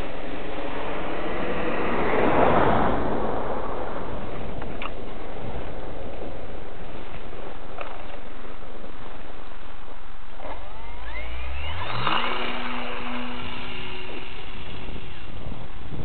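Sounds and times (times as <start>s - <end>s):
constant rushing noise: 0.0s - 16.0s
model airplane propeller whine: 0.0s - 16.0s.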